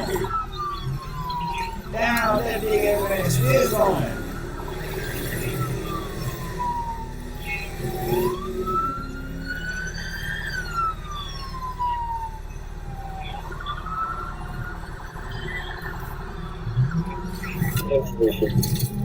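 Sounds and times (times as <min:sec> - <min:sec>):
police siren wailing: 0:00.0 - 0:19.0.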